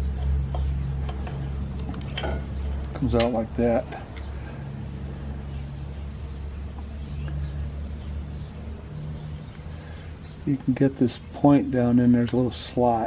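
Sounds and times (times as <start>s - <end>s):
low engine hum: 0.0s - 12.5s.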